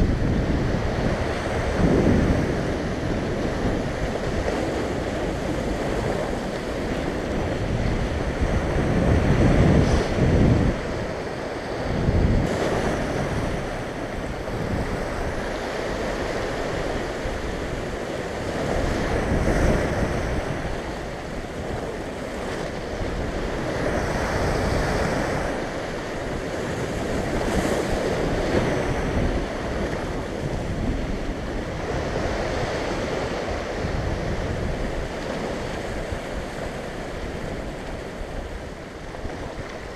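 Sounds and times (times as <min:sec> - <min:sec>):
waves breaking on rocks: 0:00.0 - 0:39.9
wind buffeting microphone: 0:00.0 - 0:39.9.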